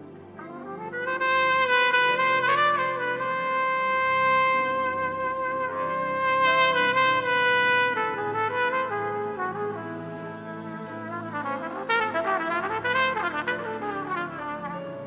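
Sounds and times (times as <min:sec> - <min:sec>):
soft accompaniment: 0:00.0 - 0:15.0
trumpet playing slow melody: 0:00.0 - 0:15.0.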